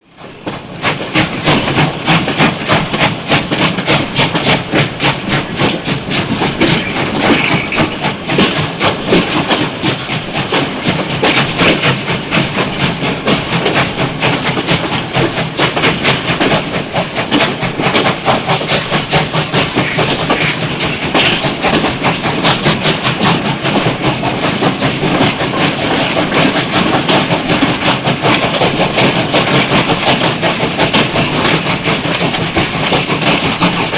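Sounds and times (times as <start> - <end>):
steam locomotive chugging: 0.0 - 33.9.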